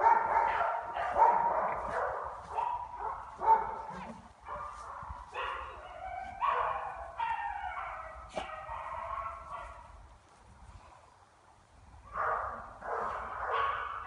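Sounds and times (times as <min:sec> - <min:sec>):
dogs barking and wavering cries: 0:00.0 - 0:09.8, 0:12.1 - 0:14.0.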